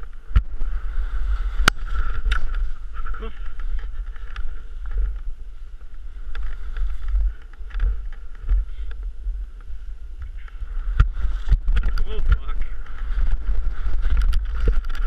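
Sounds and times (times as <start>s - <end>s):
wind rumble on microphone: 0.0s - 15.0s
skis scraping over snow: 0.1s - 15.0s
ski poles knocking snow: 1.4s - 15.0s.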